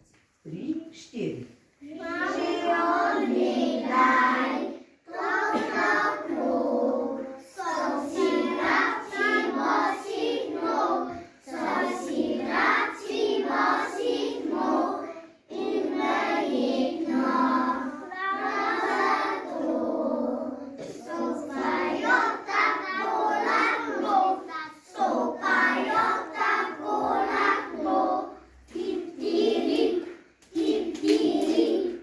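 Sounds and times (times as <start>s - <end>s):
children singing together: 1.8s - 32.0s.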